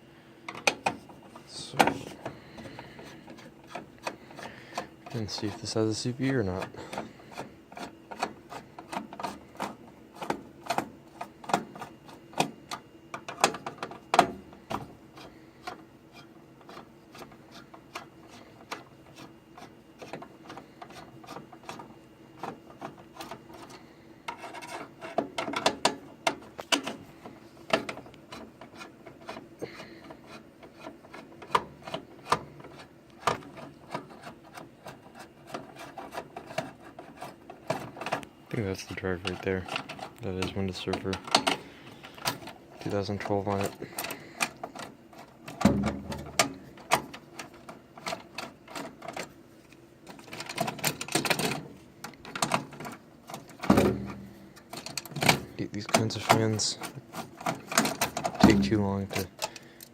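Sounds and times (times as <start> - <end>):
faint steady hum: 0.0 - 59.9
clicks and knocks of computer parts: 0.4 - 59.9.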